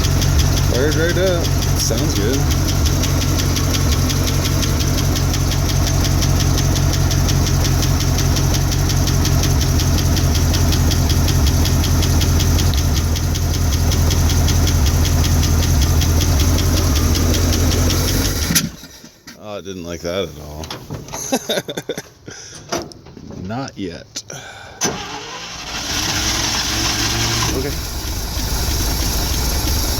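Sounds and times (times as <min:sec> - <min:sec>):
truck engine idling: 0:00.0 - 0:19.1, 0:24.4 - 0:29.9.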